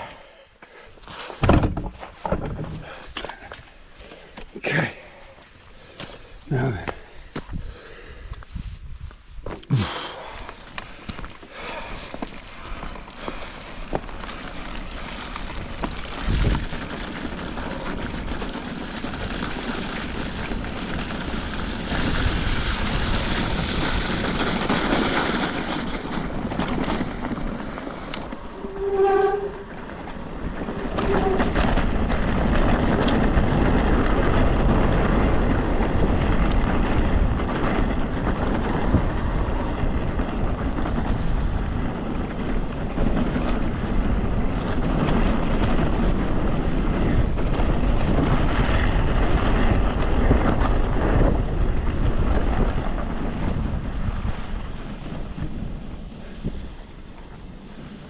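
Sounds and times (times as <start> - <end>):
bike rumbling and rattling: 0.0 - 58.0
wind buffeting microphone: 5.4 - 58.0.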